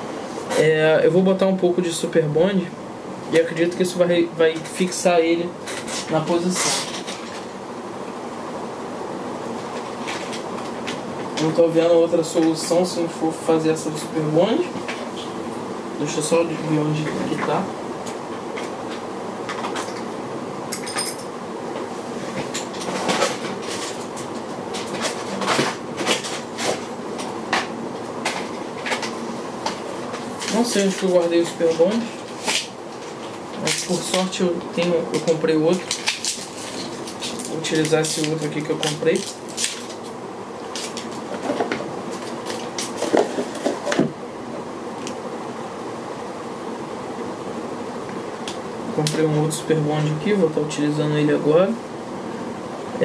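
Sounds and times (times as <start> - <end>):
steady fan-like hum: 0.0 - 53.0.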